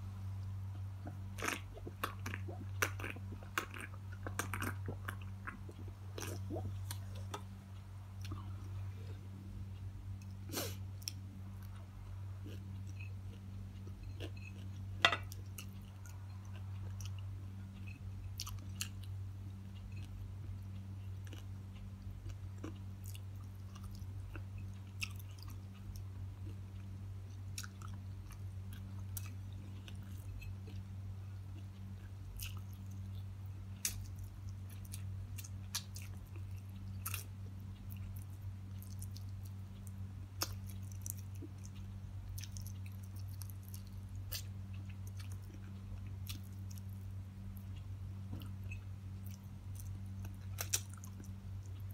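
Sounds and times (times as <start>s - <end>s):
steady low hum: 0.0s - 51.9s
person chewing: 0.4s - 7.6s, 10.2s - 19.2s, 19.8s - 51.9s.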